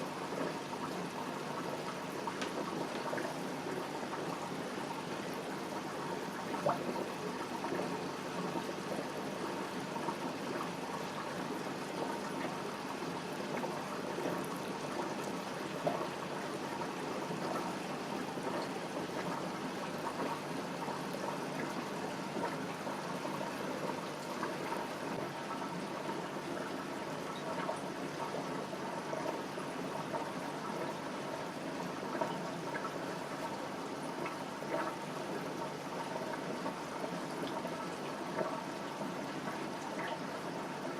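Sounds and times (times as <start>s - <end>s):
aquarium water trickling: 0.0s - 40.9s.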